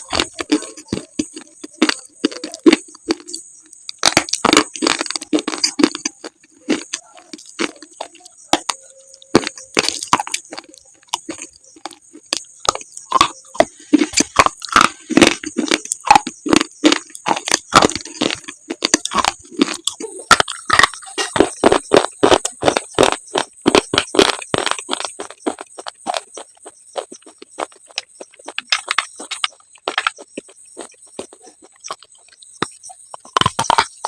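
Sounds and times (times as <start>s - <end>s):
crunching and chewing slate: 0.0s - 34.0s.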